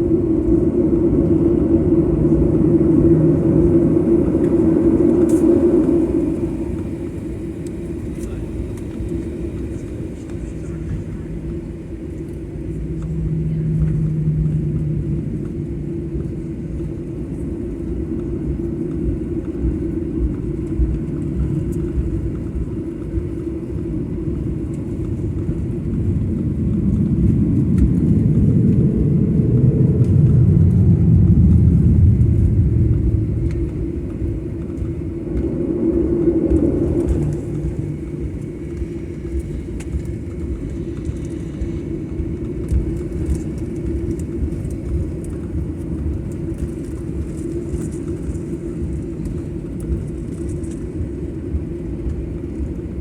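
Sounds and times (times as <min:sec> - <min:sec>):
jet engine rumble in cabin: 0:00.0 - 0:53.0.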